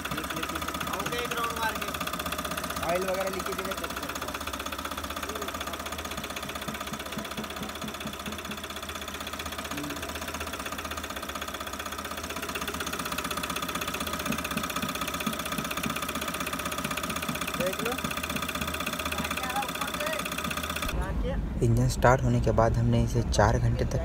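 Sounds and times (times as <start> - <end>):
diesel engine clattering: 0.0 - 24.0.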